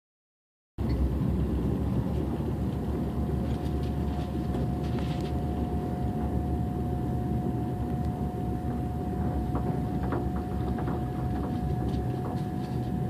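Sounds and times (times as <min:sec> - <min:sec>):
constant high whine: 0:00.8 - 0:13.0
train low rumble: 0:00.8 - 0:13.0.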